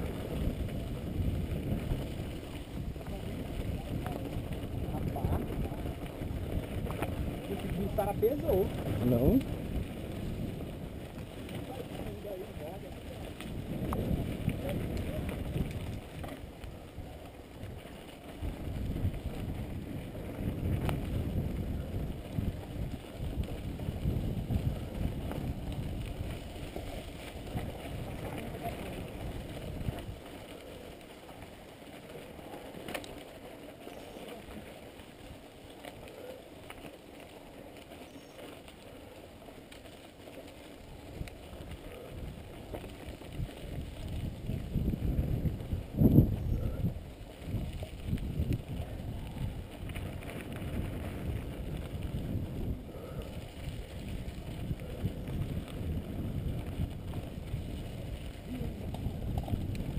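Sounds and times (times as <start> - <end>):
wind on microphone: 0.0 - 32.9, 40.8 - 59.9
bike rattling: 0.0 - 59.9
bike tyre rumble on gravel: 0.0 - 59.9.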